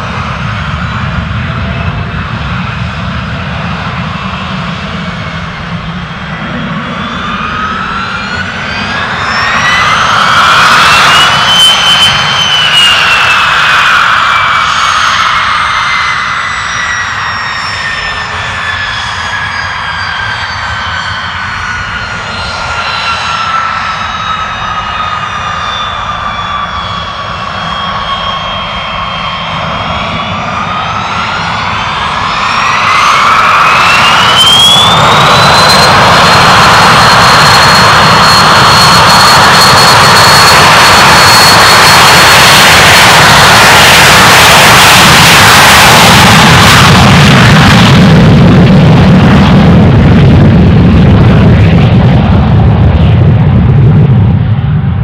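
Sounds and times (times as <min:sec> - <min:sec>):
jet engines whining: 0:00.0 - 0:55.0.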